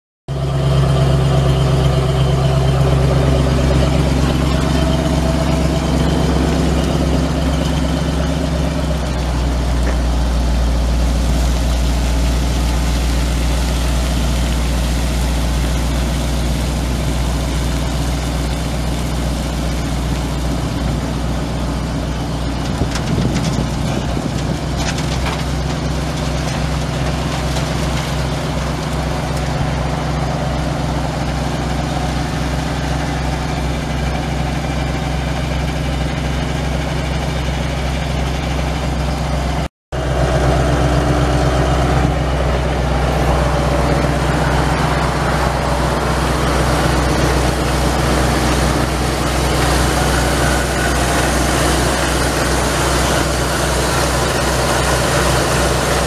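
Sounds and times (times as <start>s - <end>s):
truck engine idling: 0.3s - 56.0s.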